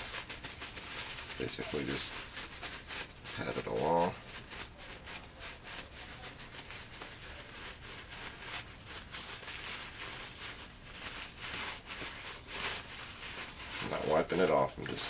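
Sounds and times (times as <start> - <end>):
paper towel patting on plastic: 0.0 - 15.0.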